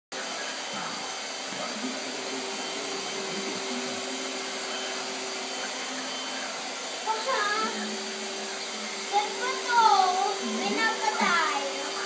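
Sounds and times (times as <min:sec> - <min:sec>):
vacuum cleaner running on carpet: 0:00.2 - 0:12.0.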